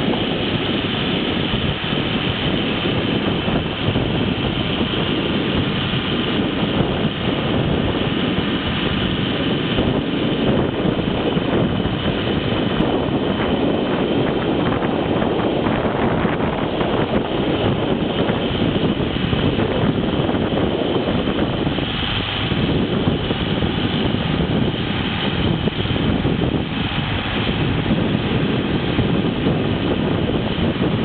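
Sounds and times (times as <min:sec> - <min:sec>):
tractor diesel engine and snowblower: 0:00.0 - 0:31.0.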